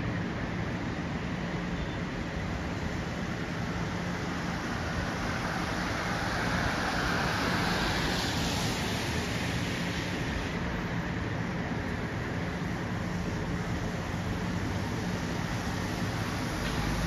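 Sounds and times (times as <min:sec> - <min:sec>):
urban traffic noise: 0:00.0 - 0:17.0.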